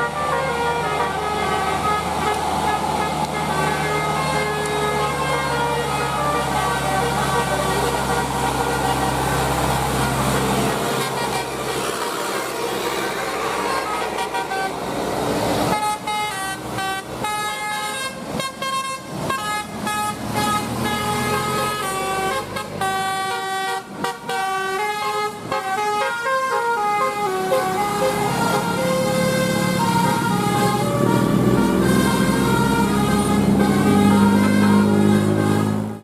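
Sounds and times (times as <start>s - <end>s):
multi-tone air horn melody: 0.0s - 14.8s, 15.6s - 36.0s
vehicle noise: 0.0s - 36.0s.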